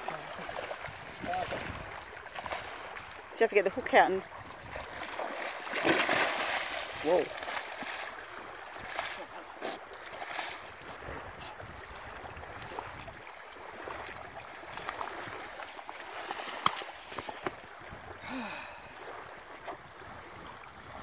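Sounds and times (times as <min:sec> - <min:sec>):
small waves washing on shore: 0:00.0 - 0:21.0.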